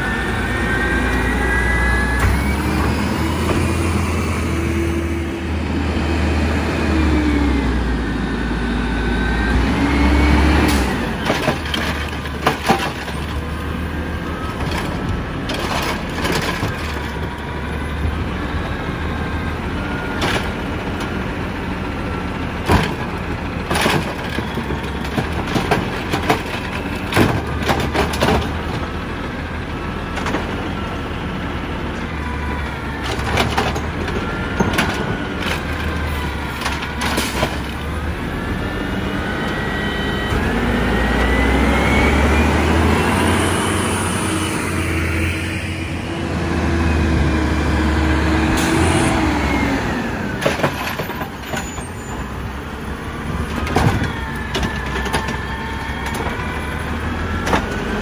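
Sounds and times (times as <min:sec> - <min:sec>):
engine whine: 0:00.0 - 0:58.0
garbage truck engine: 0:00.0 - 0:58.0.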